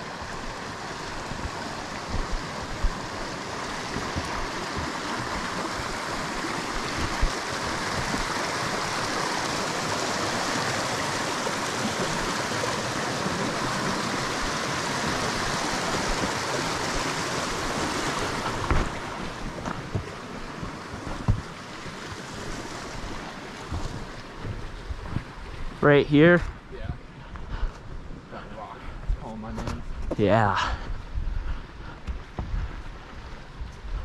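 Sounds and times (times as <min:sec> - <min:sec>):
creek running over rocks: 0:00.0 - 0:34.0.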